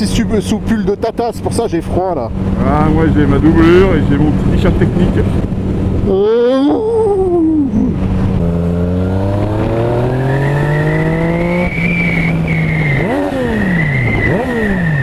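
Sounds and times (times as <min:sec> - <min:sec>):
motorcycle engine revving: 0:00.0 - 0:06.3, 0:07.6 - 0:15.0.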